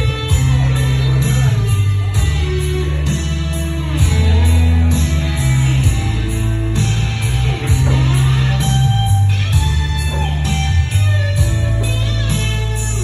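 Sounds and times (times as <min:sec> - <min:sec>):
instrumental rock band: 0:00.0 - 0:13.0.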